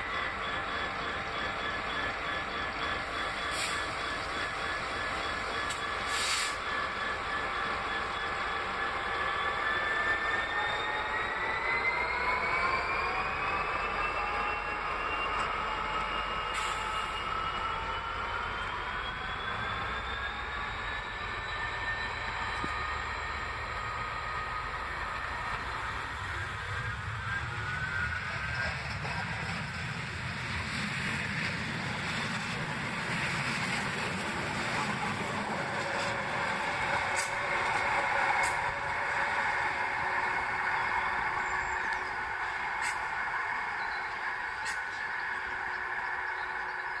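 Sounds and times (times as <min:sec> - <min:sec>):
diesel locomotive drawing away: 0:00.0 - 0:47.0
tram passing with wheel noise: 0:00.0 - 0:47.0.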